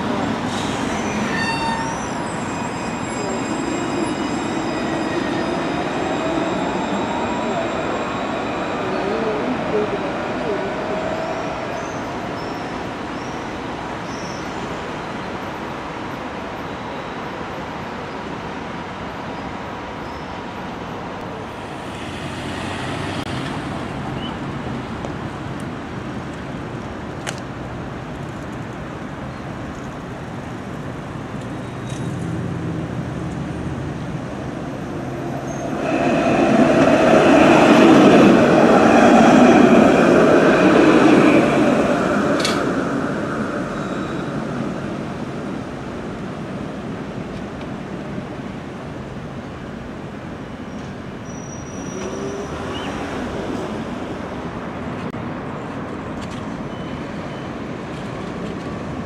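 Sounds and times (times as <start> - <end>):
tram whine: 0.0 - 27.4, 30.0 - 59.0
tram passing: 0.0 - 59.0
urban background noise: 0.0 - 59.0.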